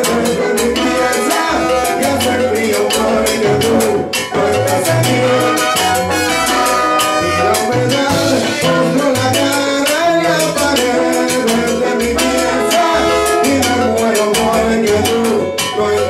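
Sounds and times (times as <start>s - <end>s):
man singing: 0.0s - 16.0s
walking bass line: 0.0s - 16.0s
trombones playing held notes: 0.8s - 14.3s.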